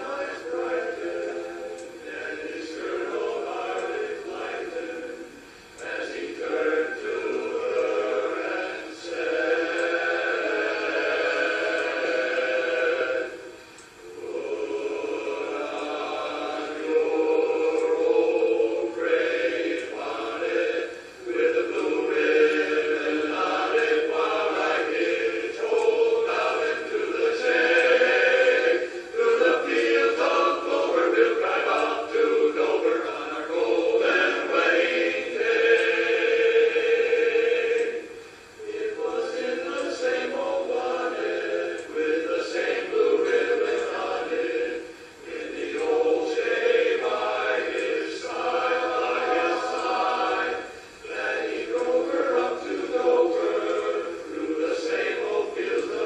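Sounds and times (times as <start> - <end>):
men's chorus singing a cappella: 0.0 - 56.0.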